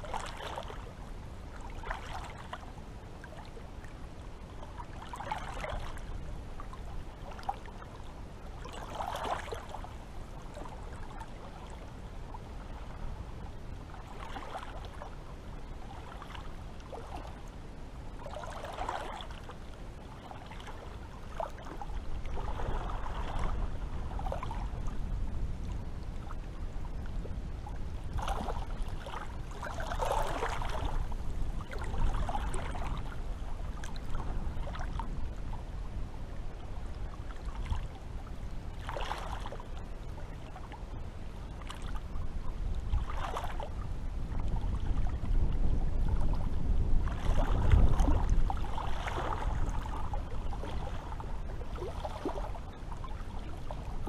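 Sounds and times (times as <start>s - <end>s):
small waves lapping: 0.0s - 54.0s.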